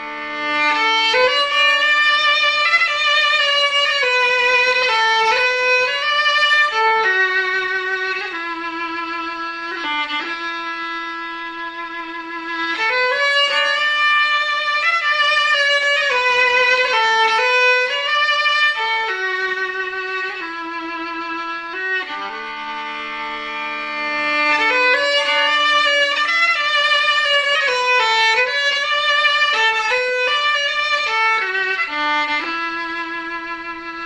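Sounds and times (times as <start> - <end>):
solo fiddle playing slow tune: 0.0 - 34.0.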